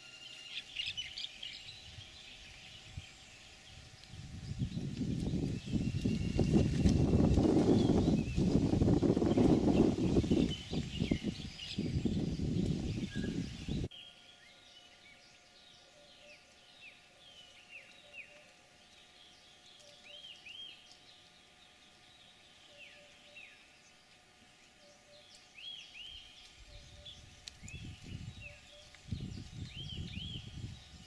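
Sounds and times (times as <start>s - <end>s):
birds chirping: 0.0s - 31.0s
faint steady hum: 0.0s - 31.0s.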